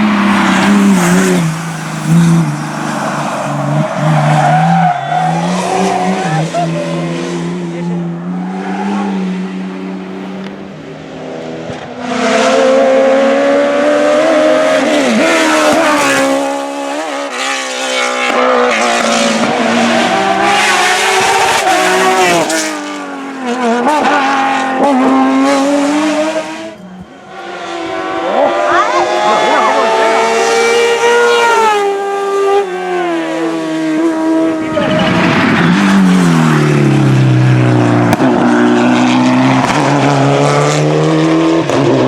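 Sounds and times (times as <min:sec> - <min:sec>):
race car engine revving: 0:00.0 - 0:42.0.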